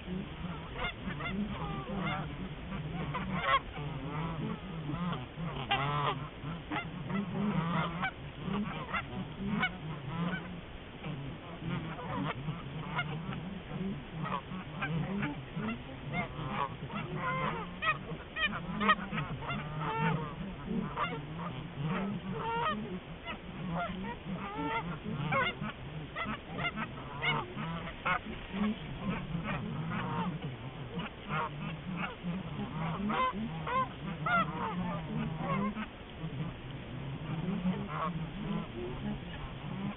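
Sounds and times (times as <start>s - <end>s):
flock of geese honking: 0.0s - 39.9s.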